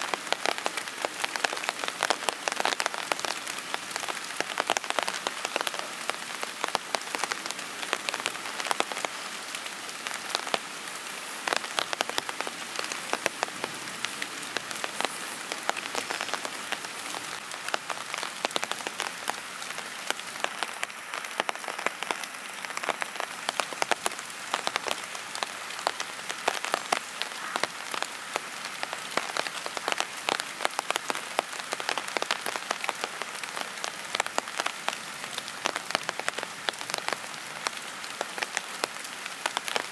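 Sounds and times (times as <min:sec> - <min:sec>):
rain drops ticking: 0:00.0 - 0:39.9.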